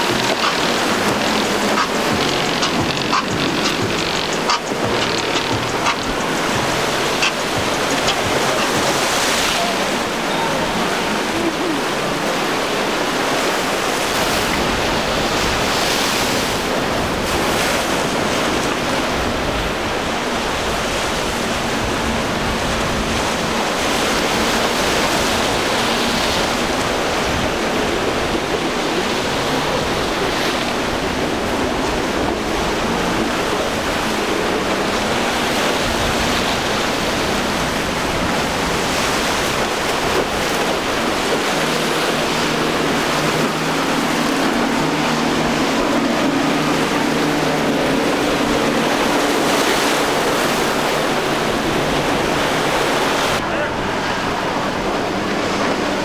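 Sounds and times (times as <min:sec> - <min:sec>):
outboard engines droning: 0:00.0 - 0:56.0
waves breaking: 0:00.0 - 0:56.0
wind buffeting microphone: 0:00.0 - 0:56.0.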